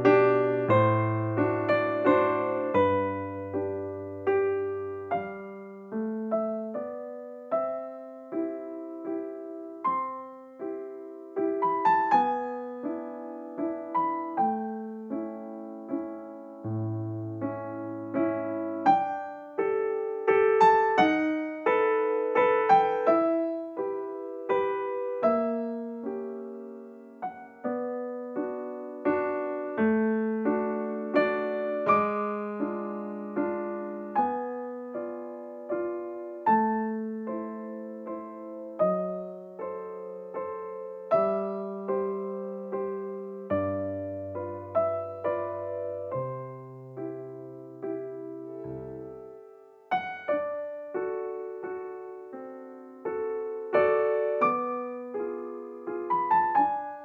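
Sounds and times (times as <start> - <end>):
gentle electric piano melody: 0.0 - 57.0.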